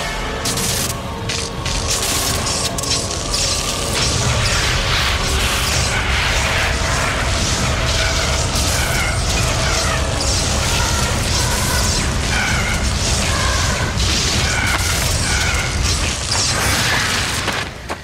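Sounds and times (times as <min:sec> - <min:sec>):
music: 0:00.0 - 0:18.0
rumbling rush of noise: 0:00.0 - 0:18.0.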